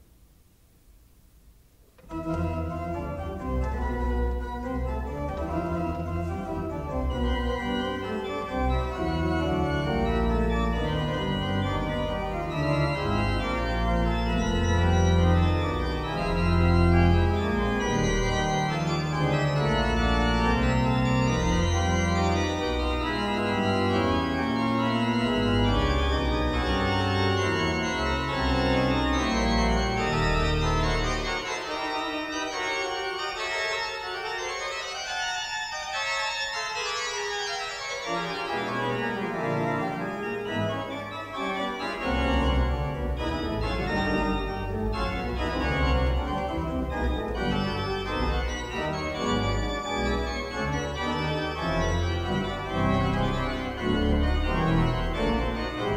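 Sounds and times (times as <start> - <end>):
deep sustained organ pedal notes: 2.0 - 55.9
pipe organ playing fast passage: 2.0 - 55.9.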